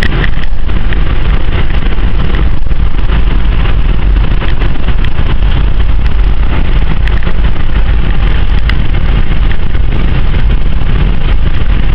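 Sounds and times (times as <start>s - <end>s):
car engine low rumble: 0.0s - 11.9s
wind noise: 0.0s - 11.9s.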